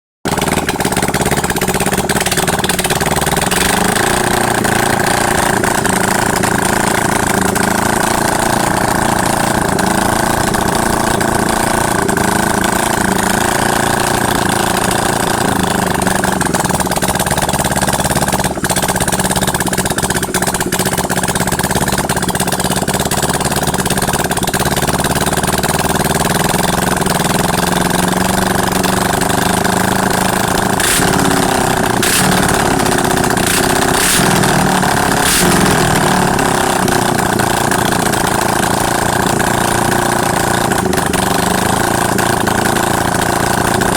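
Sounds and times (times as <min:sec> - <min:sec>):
motorcycle engine running: 0:00.2 - 0:43.9.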